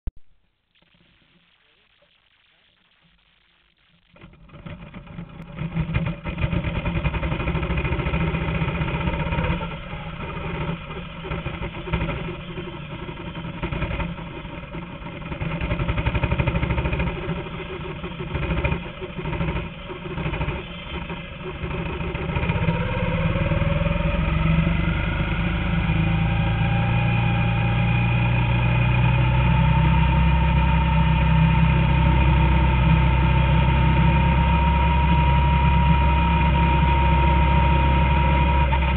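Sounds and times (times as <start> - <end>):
racing car engine: 4.2 - 38.9.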